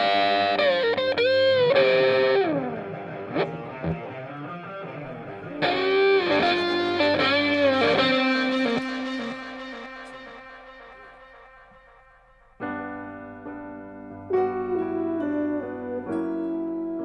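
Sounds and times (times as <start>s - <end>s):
electric guitar music: 0.0s - 17.0s.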